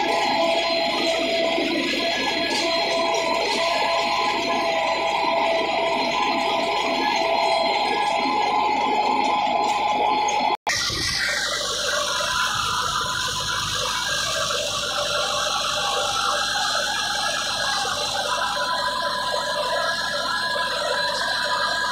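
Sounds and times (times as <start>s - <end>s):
tractor diesel engine under load: 0.0s - 21.9s.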